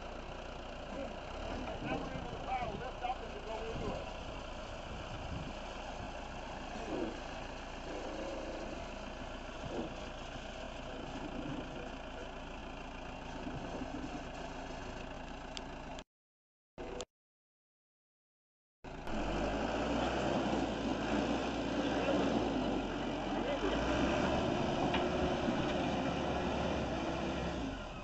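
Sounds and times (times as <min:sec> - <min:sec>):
diesel engine running: 0:00.0 - 0:16.0, 0:18.9 - 0:28.0.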